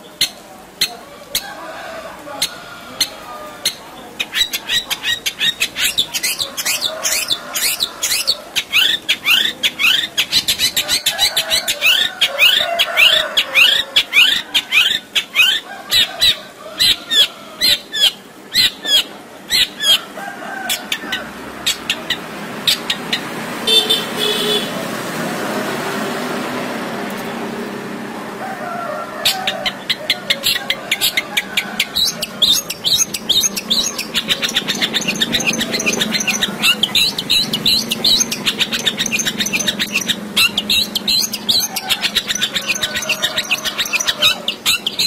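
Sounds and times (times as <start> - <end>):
steady noisy background: 0.0 - 45.0.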